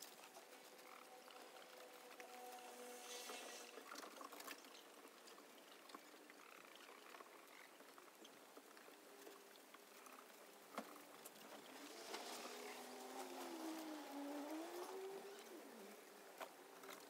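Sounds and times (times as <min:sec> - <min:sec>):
small crackles: 0:00.0 - 0:17.0.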